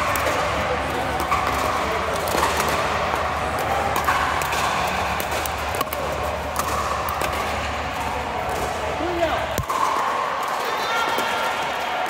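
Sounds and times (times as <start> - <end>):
paddles hitting plastic ball: 0.0 - 11.3
steady background noise: 0.0 - 12.0.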